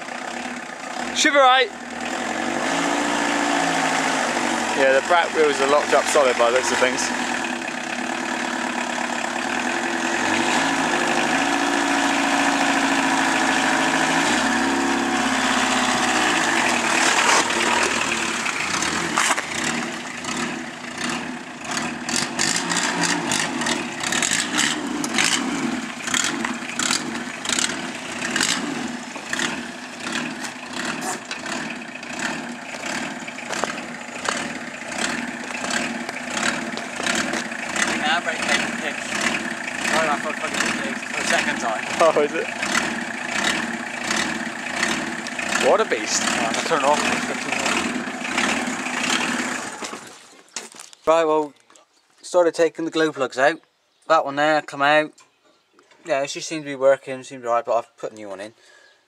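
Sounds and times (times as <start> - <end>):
diesel engine revving and clattering: 0.0 - 50.4.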